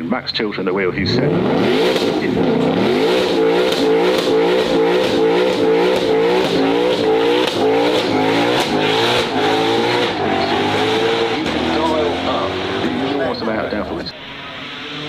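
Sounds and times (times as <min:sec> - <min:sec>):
race car engine revving: 0:00.4 - 0:15.0.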